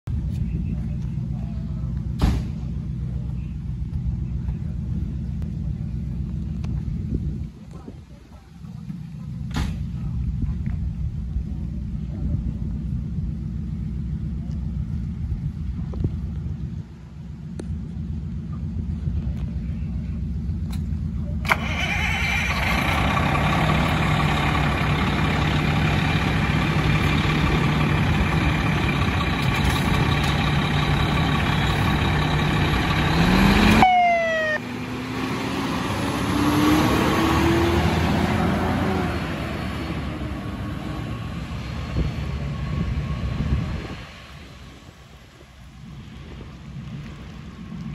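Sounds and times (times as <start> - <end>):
fire engine diesel engine: 0.0 - 47.9.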